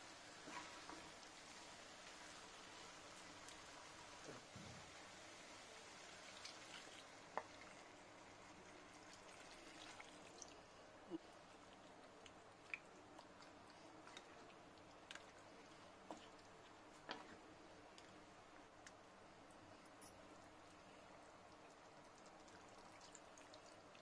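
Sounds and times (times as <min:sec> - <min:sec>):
low steady hiss: 0:00.0 - 0:24.0.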